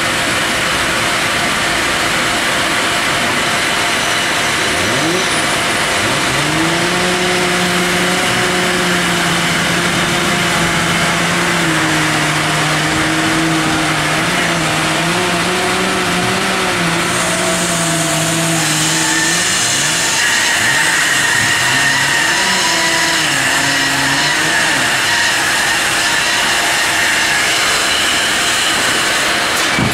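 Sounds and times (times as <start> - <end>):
bandsaw motor hum: 0.0 - 29.9
high whining tones: 1.1 - 29.8.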